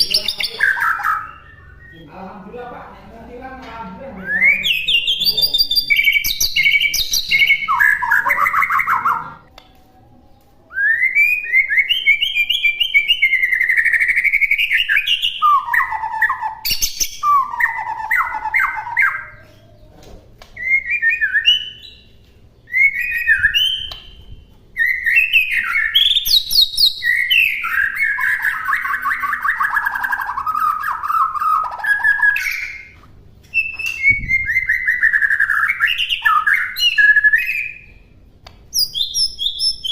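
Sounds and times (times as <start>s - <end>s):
songbird singing varied phrases: 0.0s - 2.8s, 4.1s - 9.6s, 10.6s - 19.9s, 20.6s - 39.9s.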